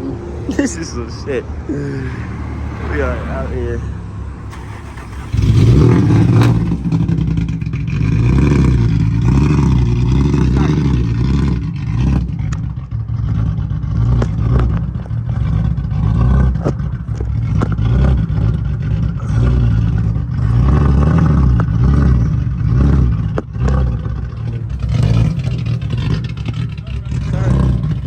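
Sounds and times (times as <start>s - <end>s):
vehicle engine at low revs: 0.0s - 28.0s.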